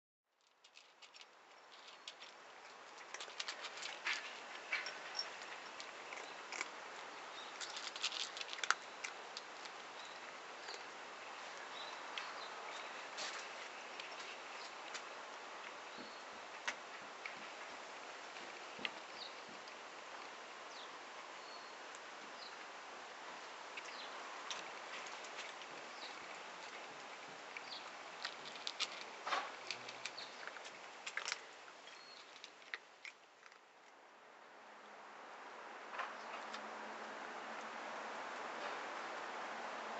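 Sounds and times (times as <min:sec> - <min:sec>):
cats crunching dry kibble: 0:00.4 - 0:20.6, 0:21.8 - 0:34.0.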